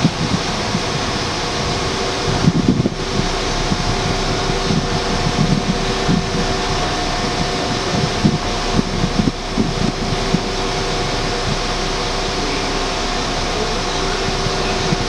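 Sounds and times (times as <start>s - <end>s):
steady hum with held tones: 0.0s - 15.0s
wind buffeting microphone: 0.0s - 15.0s.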